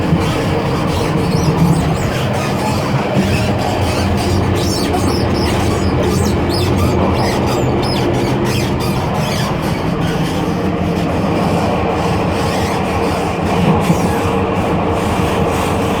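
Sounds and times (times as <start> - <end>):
rattles and squeaks of car connection: 0.0 - 16.0
train wheels rumbling on rail: 0.0 - 16.0.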